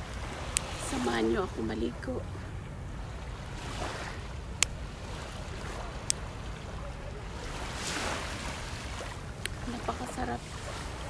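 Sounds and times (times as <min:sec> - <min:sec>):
small waves washing in: 0:00.0 - 0:11.0
wind rumbling on microphone: 0:00.0 - 0:11.0.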